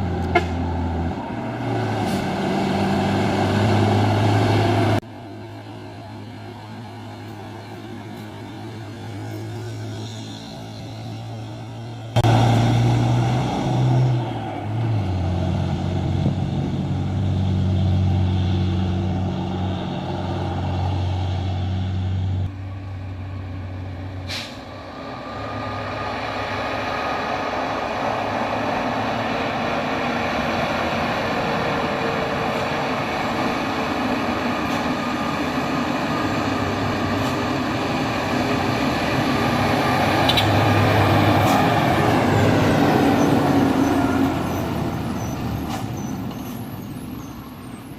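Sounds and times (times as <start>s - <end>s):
dump truck diesel engines: 0.0s - 47.9s
road noise: 0.0s - 47.9s.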